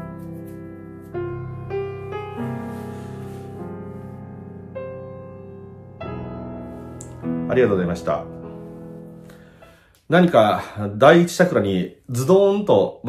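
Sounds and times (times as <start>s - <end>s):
slow meditative piano music: 0.0s - 11.0s.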